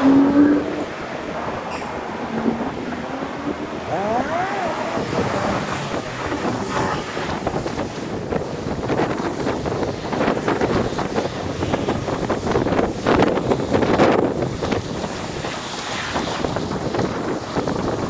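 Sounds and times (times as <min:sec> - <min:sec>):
street traffic noise: 0:00.0 - 0:18.0
wind buffeting microphone: 0:00.0 - 0:18.0.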